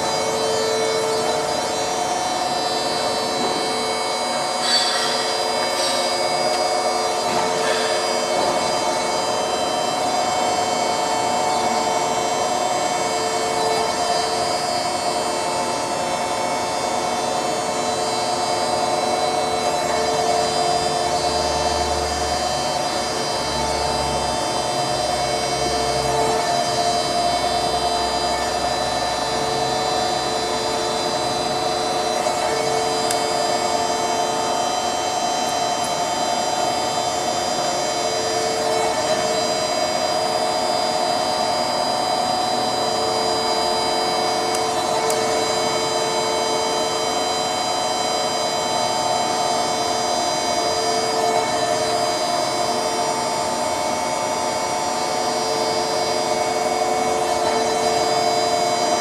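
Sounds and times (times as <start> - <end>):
surface grinder whining and hissing: 0.0 - 59.0.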